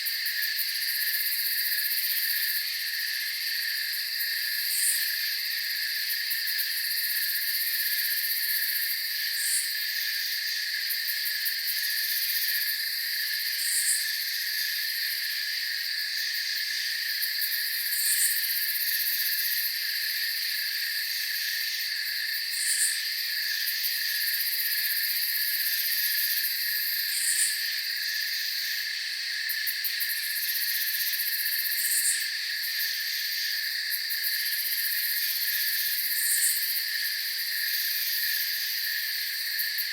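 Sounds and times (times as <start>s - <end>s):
crickets and insects chorus: 0.0s - 39.9s.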